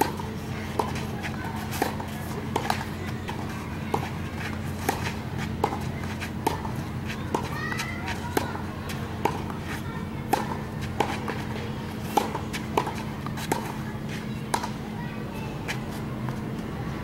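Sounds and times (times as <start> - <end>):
tennis racket hitting ball: 0.0 - 14.8.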